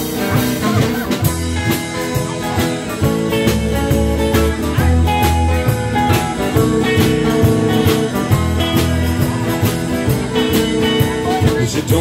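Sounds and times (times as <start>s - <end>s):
drums: 0.0s - 12.0s
guitars: 0.0s - 12.0s
upright bass: 0.0s - 12.0s.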